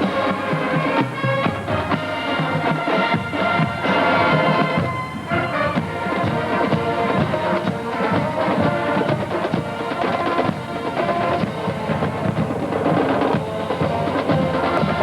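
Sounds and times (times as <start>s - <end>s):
brass notes: 0.0s - 15.0s.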